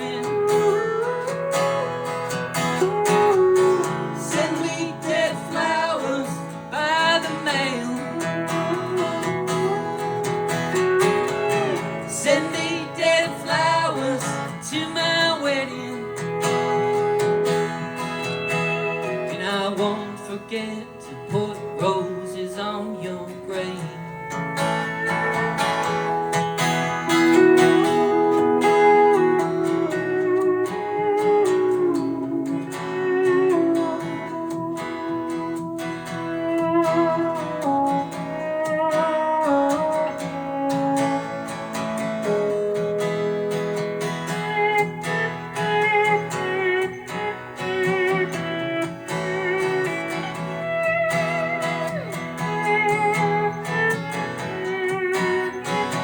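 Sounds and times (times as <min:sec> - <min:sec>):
sliding lead guitar: 0:00.0 - 0:56.0
strummed guitar accompaniment: 0:00.0 - 0:56.0.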